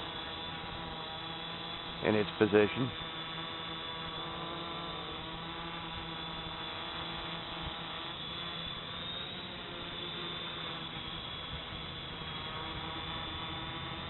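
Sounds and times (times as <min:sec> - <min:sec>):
drone propellers humming: 0:00.0 - 0:14.0.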